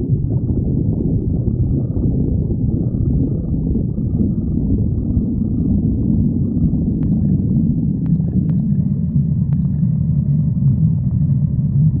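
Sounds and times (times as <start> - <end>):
stomach growling: 0.0 - 12.0.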